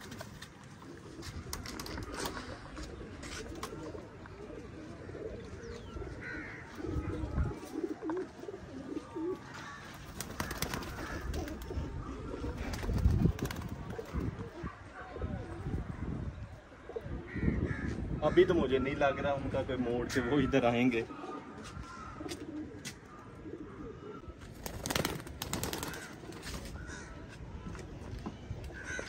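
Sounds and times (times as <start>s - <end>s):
pigeons cooing: 0.0s - 17.8s, 20.4s - 27.2s.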